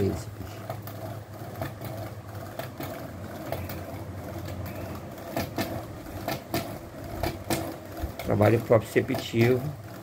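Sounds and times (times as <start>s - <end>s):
skateboard wheels rolling on tiles: 0.0s - 10.0s.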